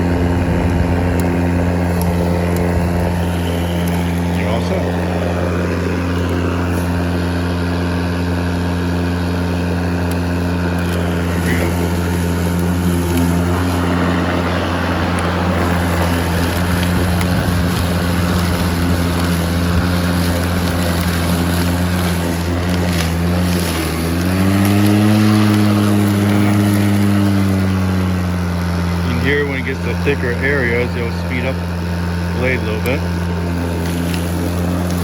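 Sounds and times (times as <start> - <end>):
lawn mower cutting grass: 0.0 - 35.0.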